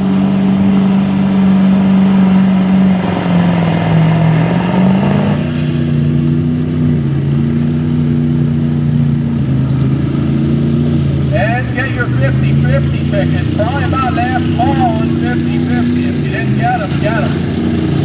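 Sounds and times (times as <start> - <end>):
high whine: 0.0 - 7.9, 9.9 - 18.0
truck engine running hard: 0.0 - 18.0.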